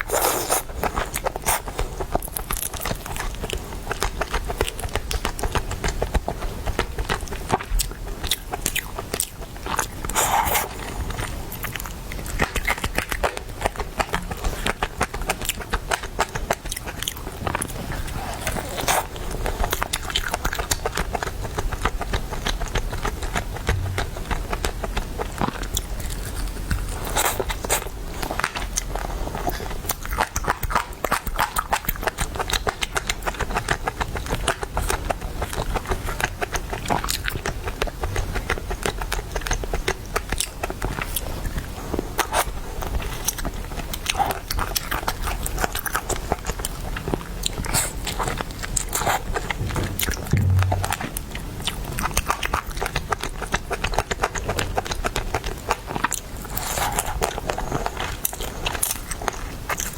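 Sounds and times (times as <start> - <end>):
biting and chewing chicken: 0.0 - 50.8, 51.9 - 59.9.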